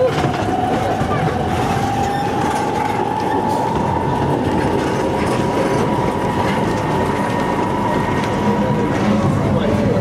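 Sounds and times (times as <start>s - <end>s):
train rumbling rattle: 0.0s - 10.0s.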